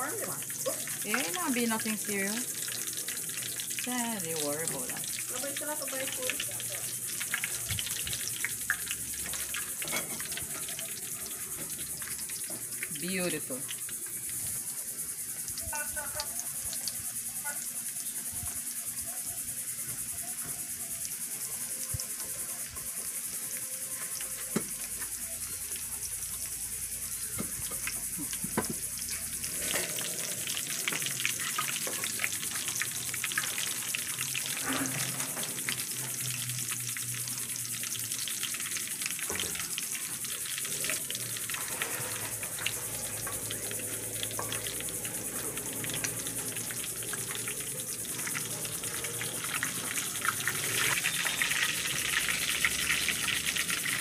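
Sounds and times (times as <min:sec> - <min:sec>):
shrimp sizzling in hot oil: 0:00.0 - 0:54.0.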